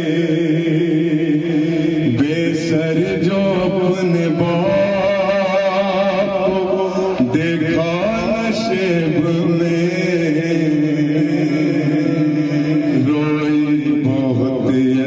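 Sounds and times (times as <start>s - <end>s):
man chanting lament: 0.0s - 15.0s.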